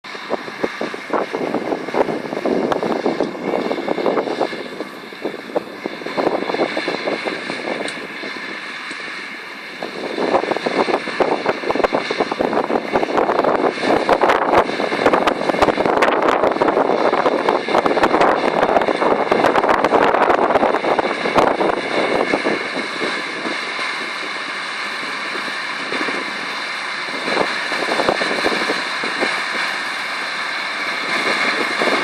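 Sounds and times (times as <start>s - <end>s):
baler mechanical whine: 0.0s - 32.0s
rapid machinery rattling: 0.0s - 32.0s.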